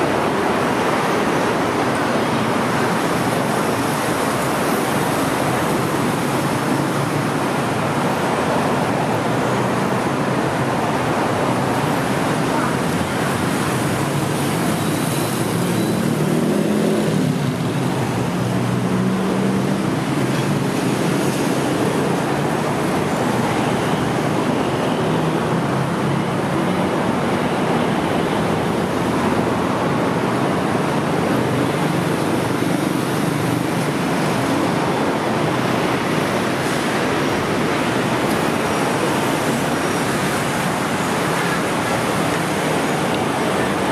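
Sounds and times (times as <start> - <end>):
cars driving past: 0.0 - 43.9.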